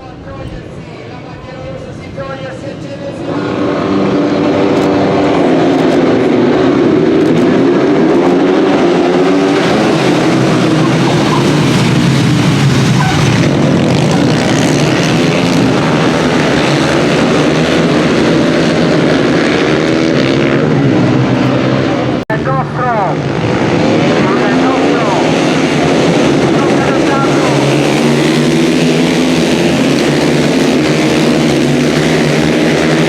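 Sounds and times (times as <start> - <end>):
motorcycle engines revving: 0.0 - 33.0.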